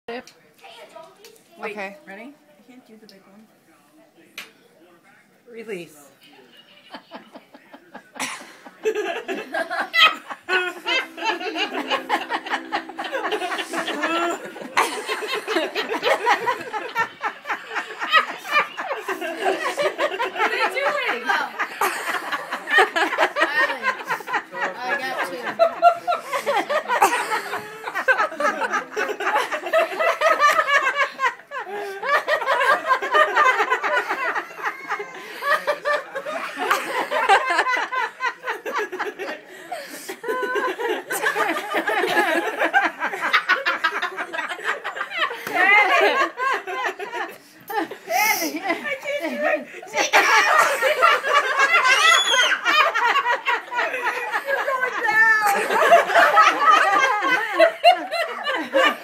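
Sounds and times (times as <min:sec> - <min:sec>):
women laughing and giggling: 0:06.7 - 0:59.0.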